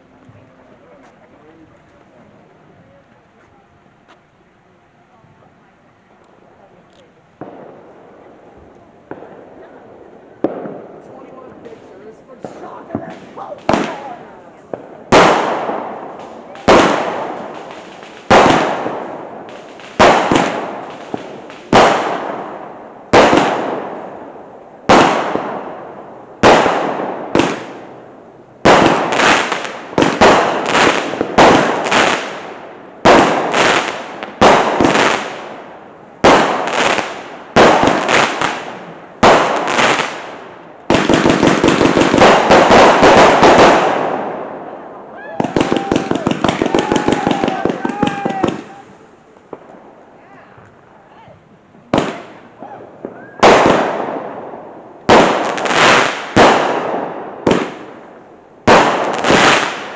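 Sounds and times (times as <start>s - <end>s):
fireworks bangs: 7.4s - 59.9s.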